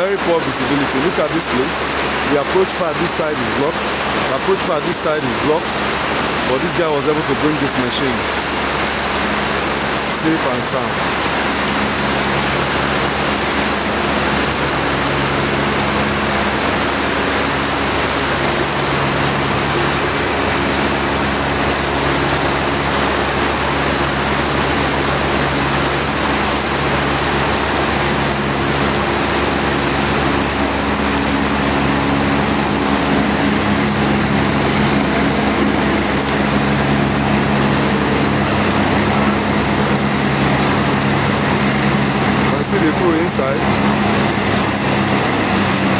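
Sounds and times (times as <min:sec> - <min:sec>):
heavy rain hissing: 0:00.0 - 0:45.9
helicopter engine and rotor hum: 0:00.0 - 0:45.9.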